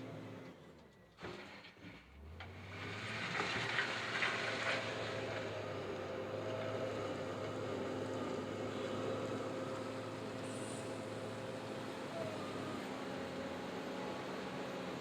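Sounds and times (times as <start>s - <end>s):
diesel engine running: 1.9s - 15.0s.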